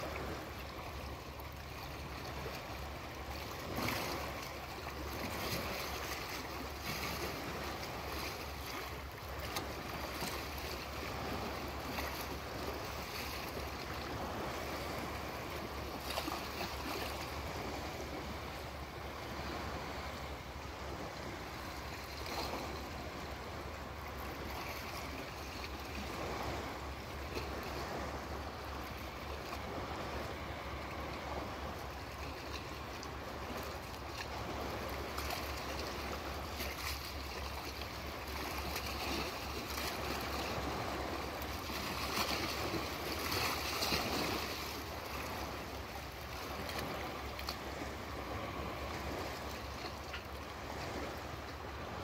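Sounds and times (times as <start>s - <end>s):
small waves lapping at shore: 0.0s - 52.0s.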